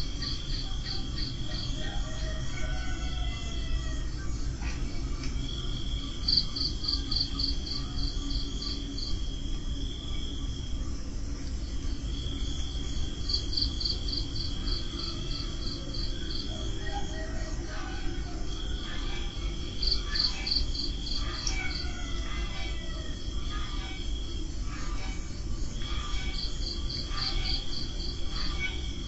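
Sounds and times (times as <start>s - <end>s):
cricket chirping: 0.0s - 29.0s
cricket steady high trill: 0.0s - 29.0s.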